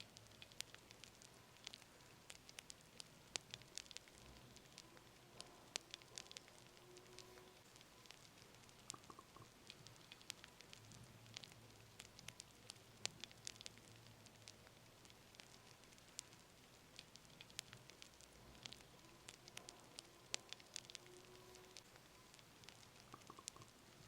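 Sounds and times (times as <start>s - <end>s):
fire crackling: 0.0s - 24.0s.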